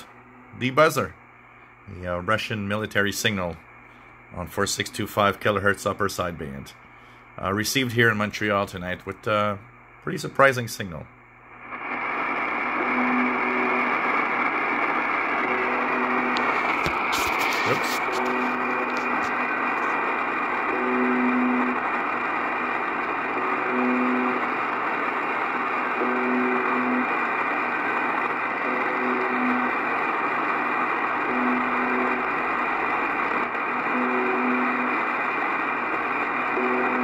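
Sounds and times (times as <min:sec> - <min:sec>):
low coarse radio buzz: 0:00.0 - 0:37.0
shortwave static hiss: 0:00.0 - 0:37.0.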